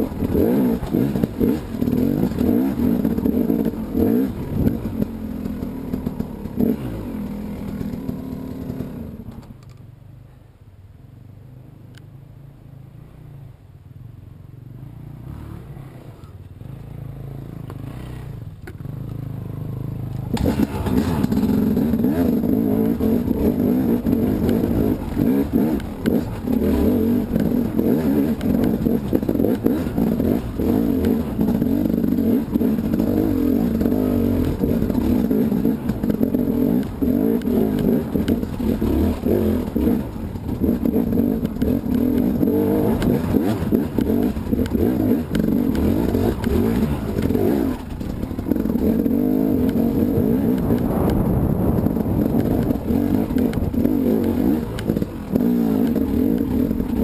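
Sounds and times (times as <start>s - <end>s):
two-stroke motorcycle engine revving: 0.0s - 9.4s, 15.1s - 57.0s
motorcycle knocking over rough ground: 0.0s - 9.6s, 20.2s - 57.0s.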